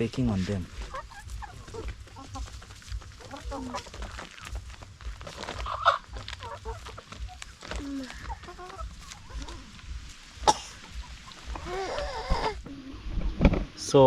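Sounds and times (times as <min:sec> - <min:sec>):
chickens clucking: 0:00.0 - 0:13.6.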